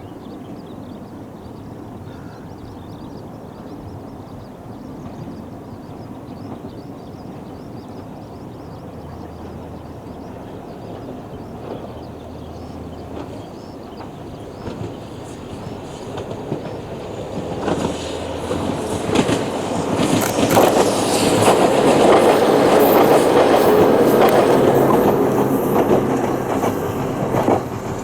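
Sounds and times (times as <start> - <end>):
electric train passing: 0.0 - 28.0
wheels clacking over rail joints: 3.7 - 28.0.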